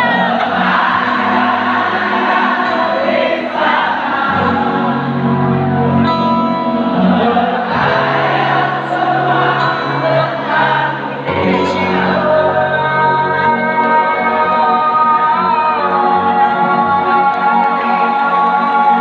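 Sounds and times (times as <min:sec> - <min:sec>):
crowd singing along: 0:00.0 - 0:19.0
live band amplified music: 0:00.0 - 0:19.0.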